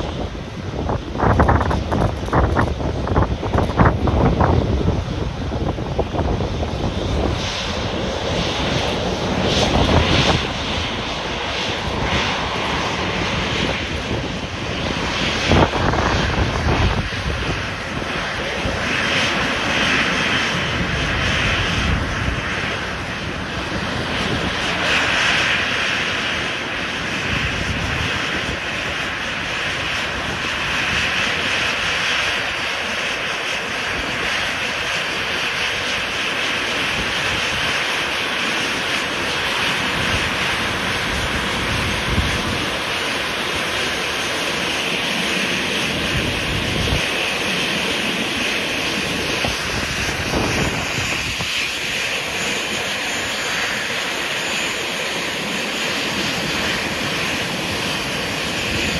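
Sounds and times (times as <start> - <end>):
jet engines at taxi power: 0.0 - 58.9
wind gusts on microphone: 0.0 - 58.9.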